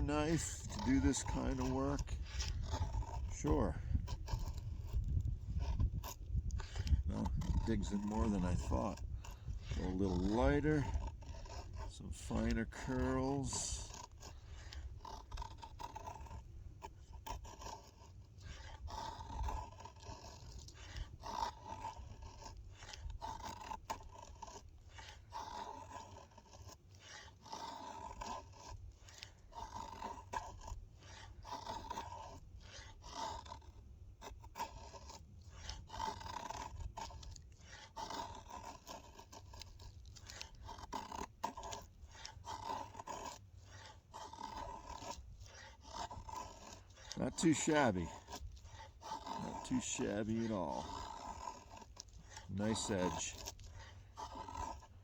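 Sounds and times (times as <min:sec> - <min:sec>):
knife scraping wood: 0:00.0 - 0:55.0.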